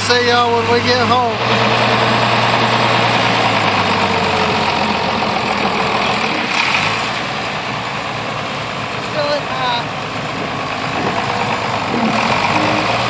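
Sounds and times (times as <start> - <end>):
tractor engine clattering: 0.0 - 13.0.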